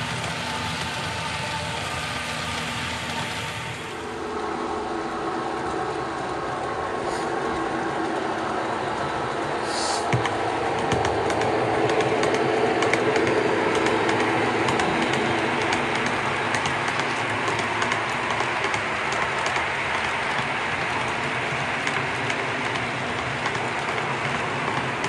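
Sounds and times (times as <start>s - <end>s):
model train running hum: 0.0s - 25.0s.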